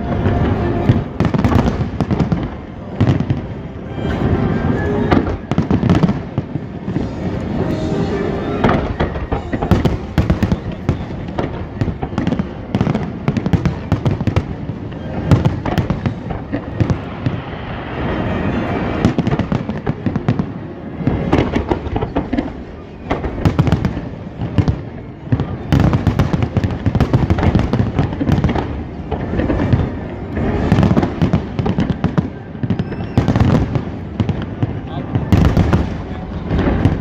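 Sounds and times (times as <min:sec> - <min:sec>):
fireworks bursting: 0:00.0 - 0:37.0
fireworks crackling: 0:00.0 - 0:37.0.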